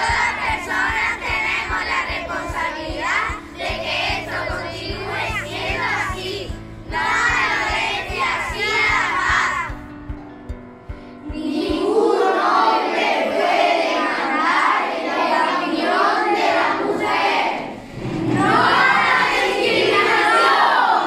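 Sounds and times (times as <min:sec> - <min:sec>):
children singing together: 0:00.0 - 0:09.9, 0:11.2 - 0:21.0.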